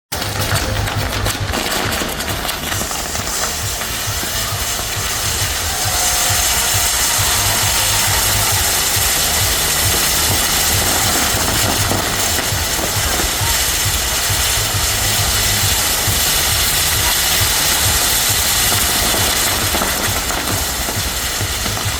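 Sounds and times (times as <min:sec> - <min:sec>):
firework fountains hissing: 0:00.1 - 0:21.9.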